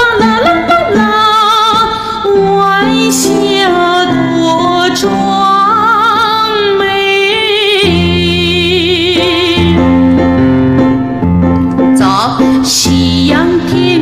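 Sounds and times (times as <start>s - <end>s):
woman singing soprano: 0.0s - 9.9s, 12.0s - 14.0s
keyboard chords: 0.0s - 14.0s.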